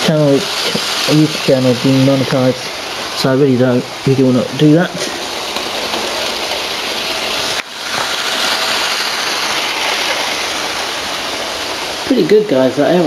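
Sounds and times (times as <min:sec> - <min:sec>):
model train whirring on track: 0:00.0 - 0:13.0.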